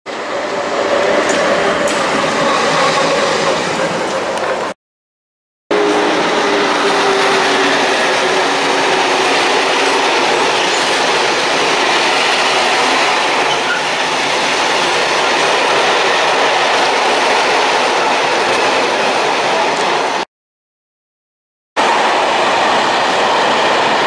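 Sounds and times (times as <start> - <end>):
train wheels rushing on rails: 0.1 - 4.8, 5.7 - 20.3, 21.8 - 24.0.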